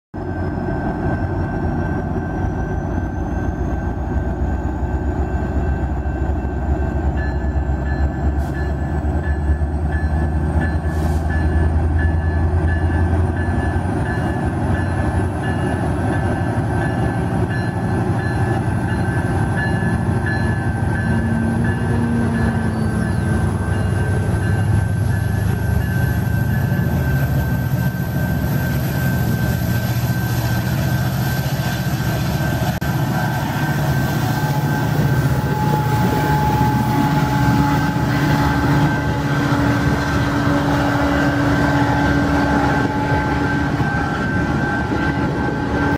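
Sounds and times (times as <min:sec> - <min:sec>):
model locomotive hum and whine: 0:00.2 - 0:45.9.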